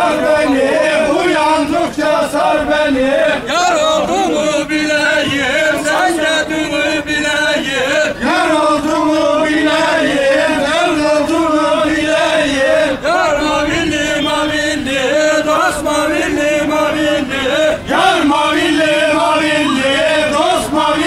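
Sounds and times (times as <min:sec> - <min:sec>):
men singing folk song: 0:00.0 - 0:21.0.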